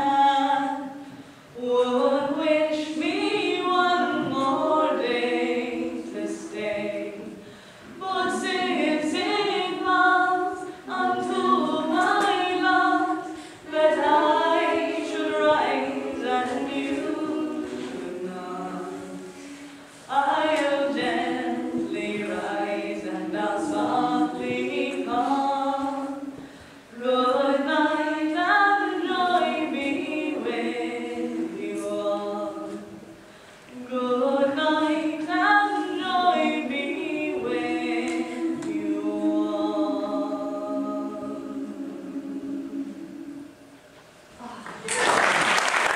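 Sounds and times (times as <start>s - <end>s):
women's choir singing a cappella: 0.0s - 43.8s.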